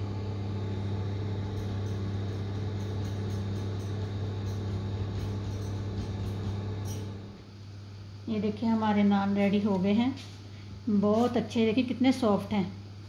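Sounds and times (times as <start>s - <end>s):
oven electrical hum: 0.0s - 13.0s
oven fan whirring: 0.0s - 13.0s.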